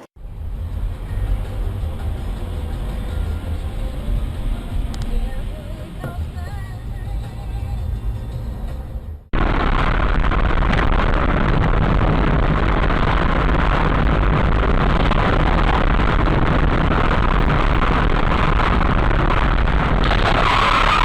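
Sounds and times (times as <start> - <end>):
vehicle wind and road noise: 0.0 - 21.0.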